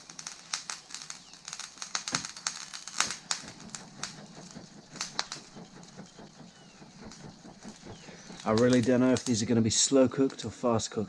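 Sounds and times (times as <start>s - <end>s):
wood fire crackling: 0.0s - 10.6s
faint hiss: 0.0s - 11.0s.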